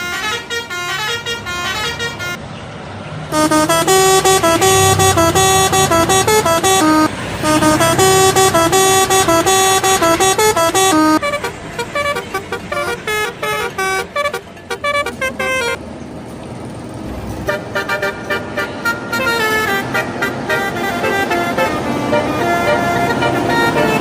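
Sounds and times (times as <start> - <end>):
bus horn playing a tune: 0.0 - 2.4, 3.3 - 15.8, 17.5 - 24.0.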